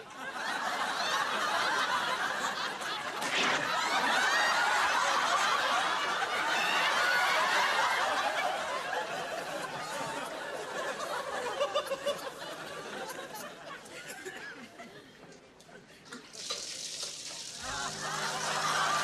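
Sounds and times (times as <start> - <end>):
crowd laughing: 0.0 - 16.6, 17.6 - 19.0.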